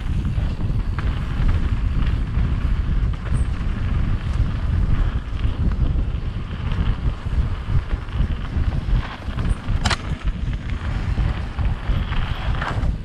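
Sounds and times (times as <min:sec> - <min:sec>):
bike tyres rolling on gravel: 0:00.0 - 0:13.0
wind buffeting microphone: 0:00.0 - 0:13.0.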